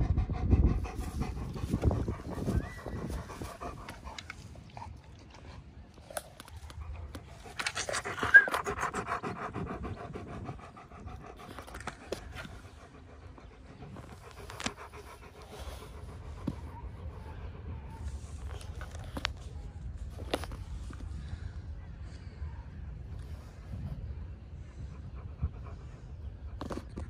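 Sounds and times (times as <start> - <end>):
dog panting: 0.0 - 19.3, 24.6 - 27.0.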